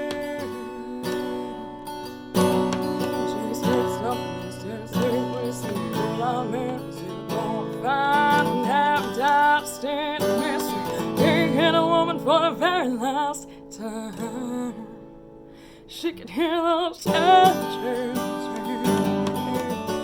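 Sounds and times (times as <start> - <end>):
acoustic guitar strumming: 0.0 - 20.0
woman singing country song: 0.0 - 20.0.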